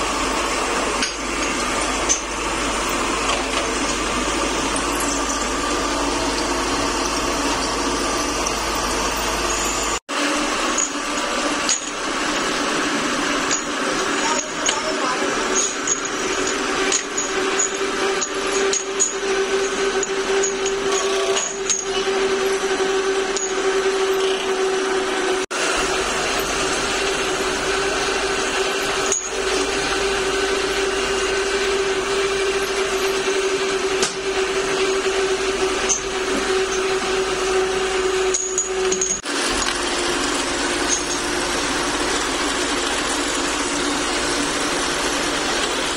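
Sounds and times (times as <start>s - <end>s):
electric motor humming: 0.0s - 45.9s.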